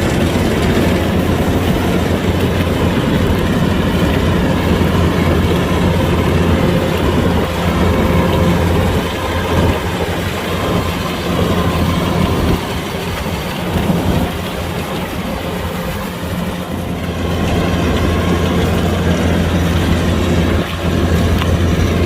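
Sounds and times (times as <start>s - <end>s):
diesel engine hum: 0.0s - 22.0s
working machinery noise: 0.0s - 22.0s.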